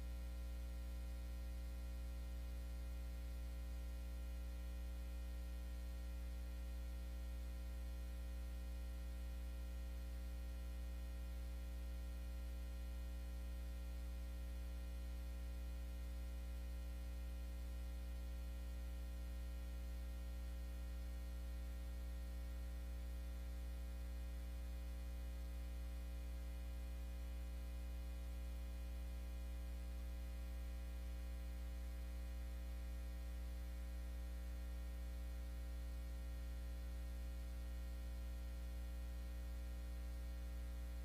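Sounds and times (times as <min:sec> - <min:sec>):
mains hum: 0:00.0 - 0:41.0.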